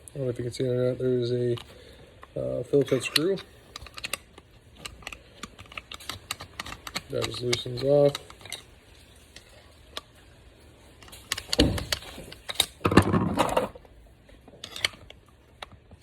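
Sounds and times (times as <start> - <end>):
rustling and clicking of parts: 1.2 - 16.0.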